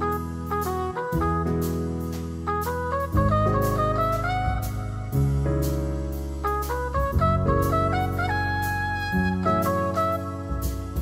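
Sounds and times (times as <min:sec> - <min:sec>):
jazz music: 0:00.0 - 0:11.0.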